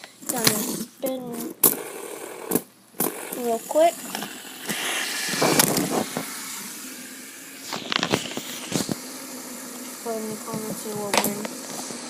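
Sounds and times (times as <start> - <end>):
fidget spinners whirring: 0.0 - 12.0.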